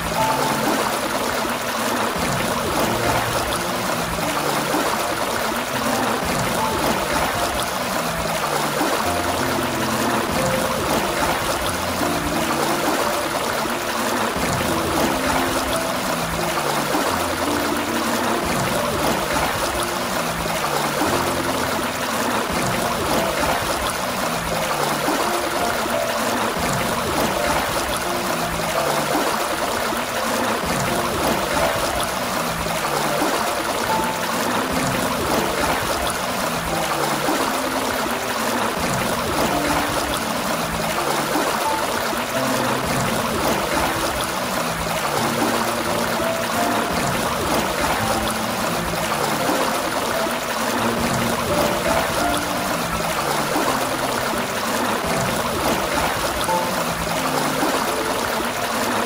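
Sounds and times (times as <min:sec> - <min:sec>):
fountain water gushing and splashing: 0:00.0 - 0:59.0.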